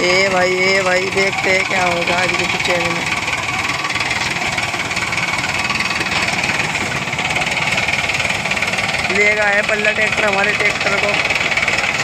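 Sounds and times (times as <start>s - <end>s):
tractor diesel engines running: 0.0s - 12.0s.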